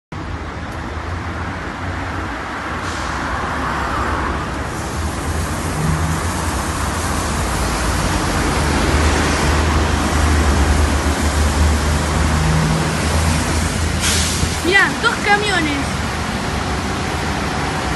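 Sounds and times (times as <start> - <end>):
bus passing: 0.2 - 17.9
tyre noise on wet asphalt: 0.2 - 17.9
truck passing: 1.1 - 17.9.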